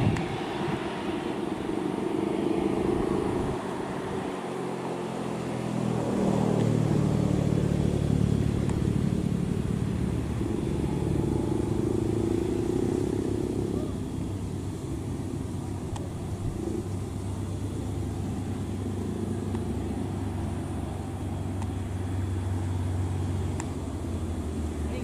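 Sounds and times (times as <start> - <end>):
vehicle engine running under load: 0.0 - 25.0.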